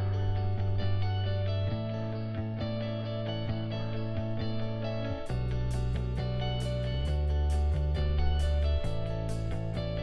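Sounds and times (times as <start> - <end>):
deep bass: 0.0 - 10.0
plucked guitar-like notes: 0.0 - 10.0.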